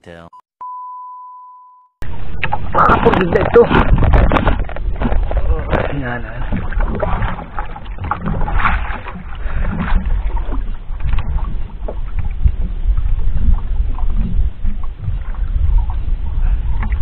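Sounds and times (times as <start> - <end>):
water slapping against hull: 2.0 - 17.0
wind rumbling on microphone: 2.0 - 17.0.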